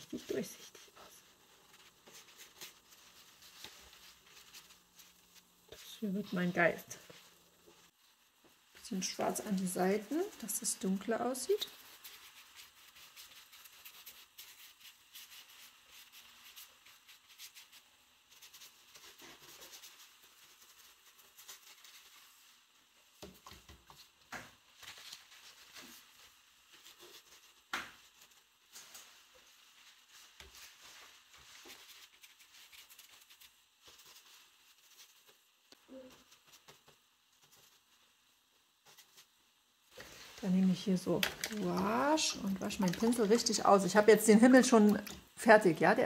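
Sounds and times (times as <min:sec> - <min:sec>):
brush scratching on paper: 0:00.0 - 0:45.2.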